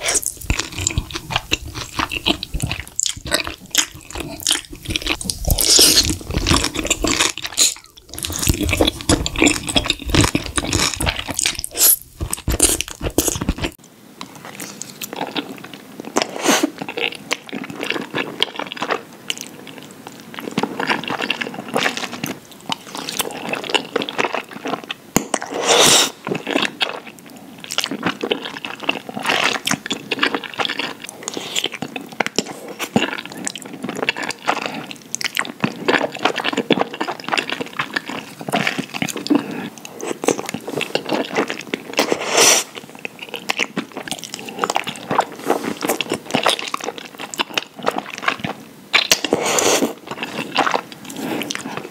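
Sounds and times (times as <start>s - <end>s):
wet chewing and mouth sounds: 0.0s - 51.9s.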